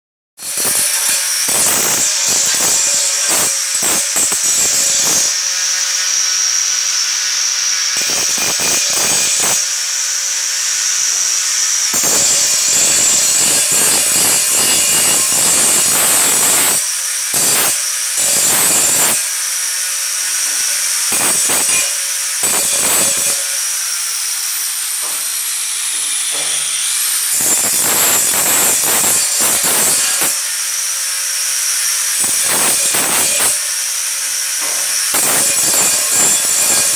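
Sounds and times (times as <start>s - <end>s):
angle grinder whining: 0.4s - 36.9s.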